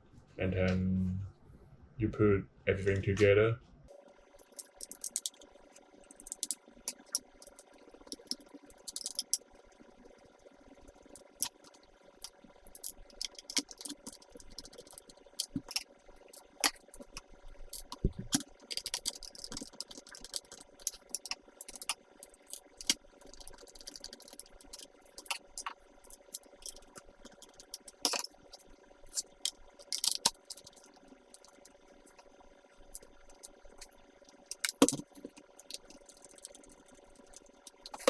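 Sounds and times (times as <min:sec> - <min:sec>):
plastic parts clicking and rattling: 0:04.4 - 0:05.5, 0:06.1 - 0:09.6, 0:11.0 - 0:38.0.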